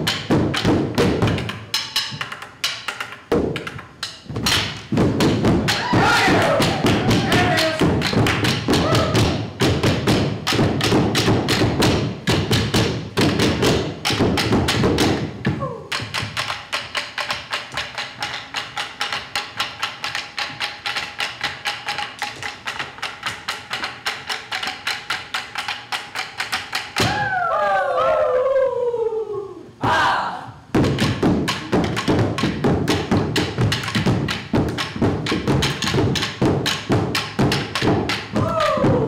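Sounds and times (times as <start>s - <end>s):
percussion ensemble striking sticks: 0.0s - 27.3s, 29.8s - 39.0s.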